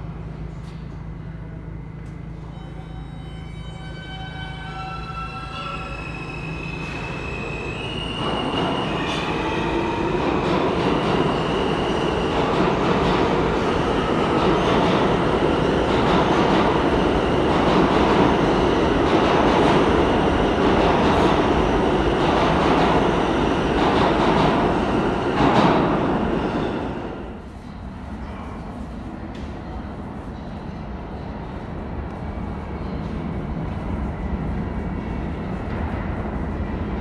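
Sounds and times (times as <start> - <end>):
train wheels rumbling on rails: 5.7 - 37.0.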